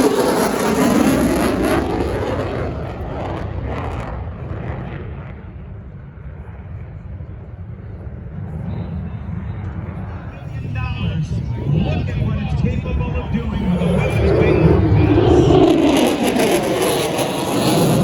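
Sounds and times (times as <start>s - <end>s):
jet fighter passing: 0.0s - 18.0s.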